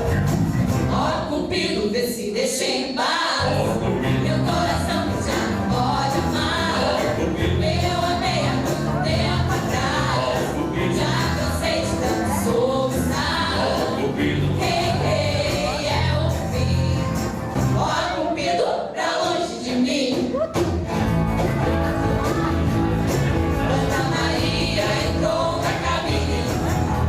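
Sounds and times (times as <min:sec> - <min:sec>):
bass line: 0:00.0 - 0:01.2, 0:03.4 - 0:18.0, 0:20.8 - 0:27.0
band playing: 0:00.0 - 0:01.4, 0:03.5 - 0:18.2, 0:20.6 - 0:27.0
drums: 0:00.0 - 0:01.8, 0:03.4 - 0:27.0
voices singing together: 0:00.8 - 0:20.7, 0:21.6 - 0:27.0.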